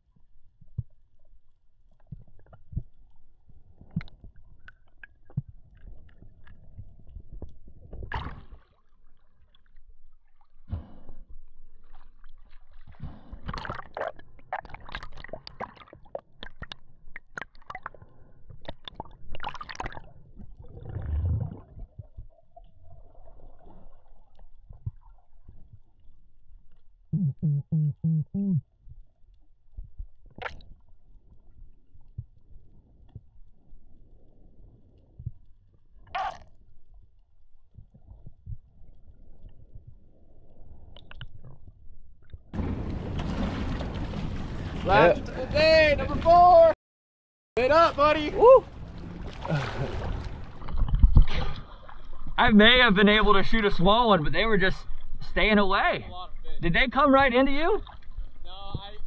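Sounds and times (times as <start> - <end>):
underwater sloshing and gurgling: 0.0 - 27.1, 28.6 - 46.1, 47.9 - 59.0.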